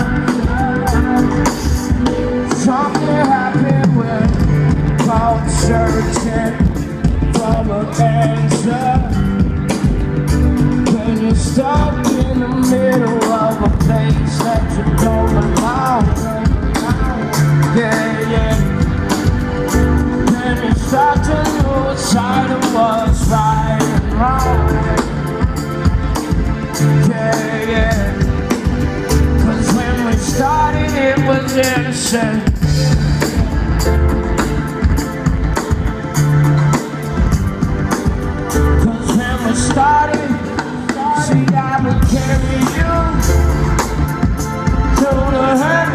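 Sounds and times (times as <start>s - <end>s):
person singing: 0.0s - 10.0s, 10.7s - 37.3s, 38.4s - 45.9s
bass: 0.0s - 45.9s
drums: 0.0s - 45.9s
electric guitar: 0.0s - 45.9s.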